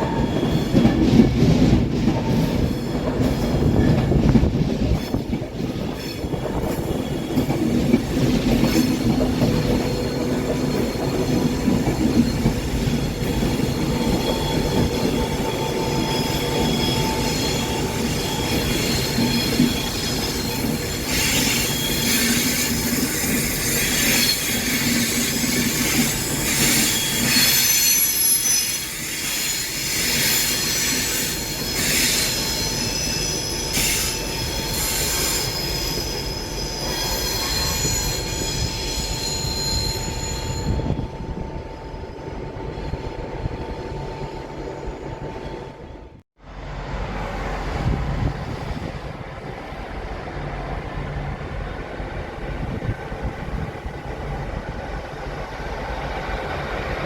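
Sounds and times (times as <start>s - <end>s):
train rumble: 0.0s - 57.0s
train wheels squealing on rails: 0.0s - 57.0s.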